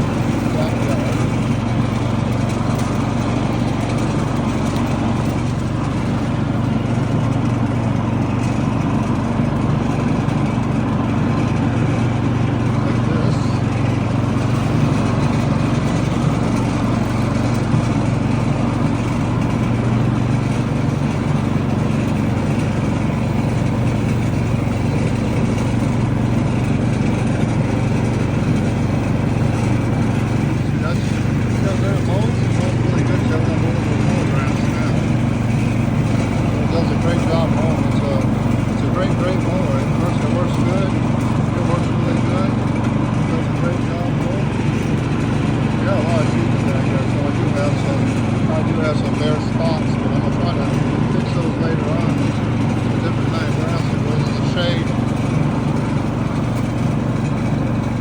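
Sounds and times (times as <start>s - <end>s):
riding lawn mower engine running: 0.0s - 58.0s.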